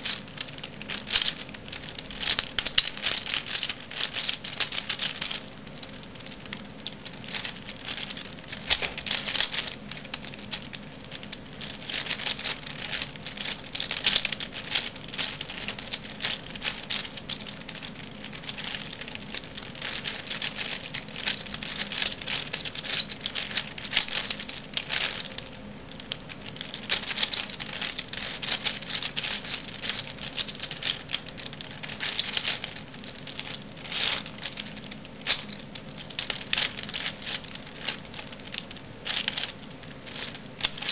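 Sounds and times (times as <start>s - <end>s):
puzzle cube plastic clicks: 0.0s - 40.9s.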